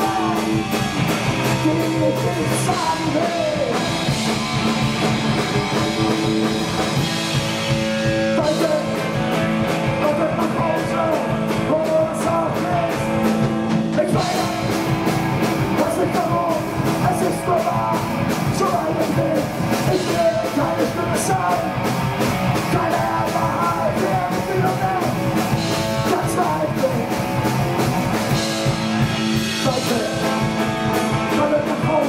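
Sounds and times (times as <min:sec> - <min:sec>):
person singing: 0:00.0 - 0:06.5, 0:07.2 - 0:21.8, 0:22.5 - 0:27.3, 0:28.2 - 0:32.0
punk rock band playing live: 0:00.0 - 0:32.0.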